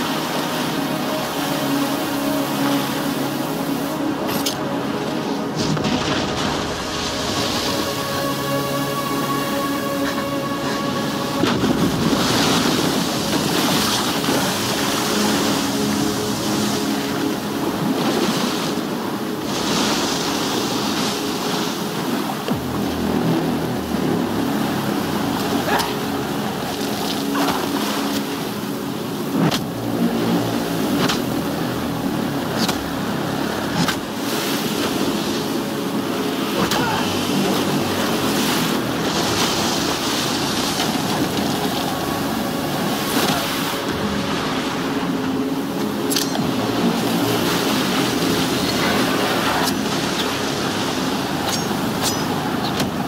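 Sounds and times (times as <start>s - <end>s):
low steady drone: 0.0s - 53.0s
surf and spray rushing: 0.0s - 53.0s.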